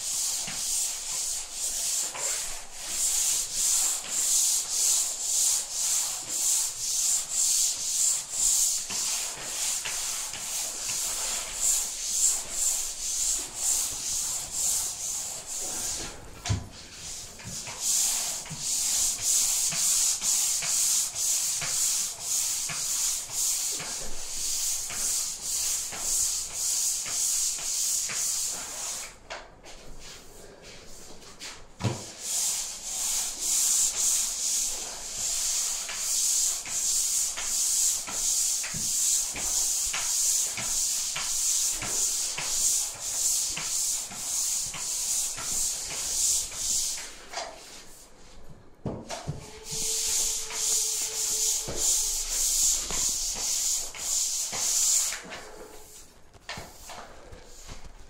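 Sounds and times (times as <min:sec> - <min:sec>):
pole sander rasping on ceiling: 0:00.0 - 0:48.0, 0:49.1 - 0:58.0.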